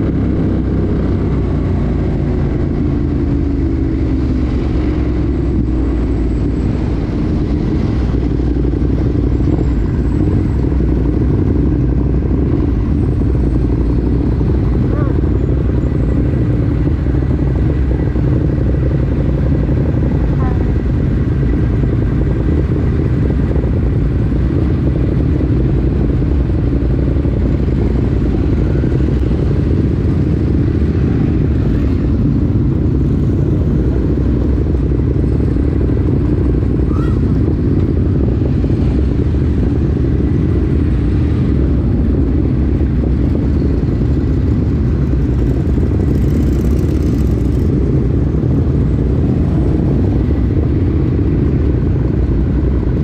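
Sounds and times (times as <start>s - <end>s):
motorcycle engines running: 0.0s - 53.0s.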